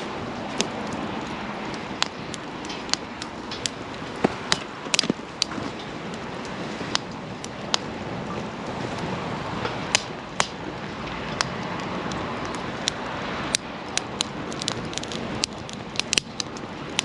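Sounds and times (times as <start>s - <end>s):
campfire crackling and popping: 0.0s - 17.0s
fire rushing noise: 0.0s - 17.0s.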